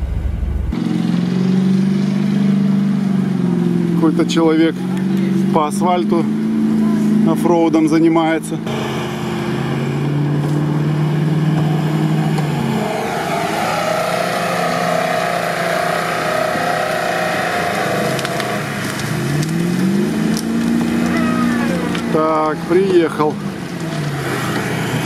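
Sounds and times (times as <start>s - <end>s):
engine revving up: 0.0s - 25.0s
off-road vehicle engines in mud: 0.0s - 25.0s.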